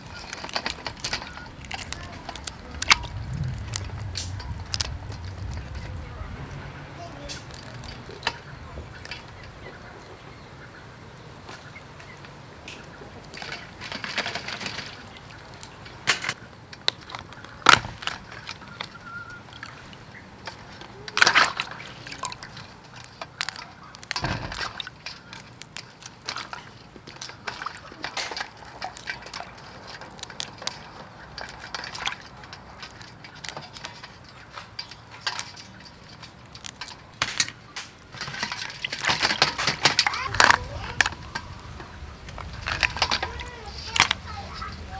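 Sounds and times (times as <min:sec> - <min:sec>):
water splashing in a bowl: 0:00.0 - 0:09.5, 0:16.9 - 0:44.9.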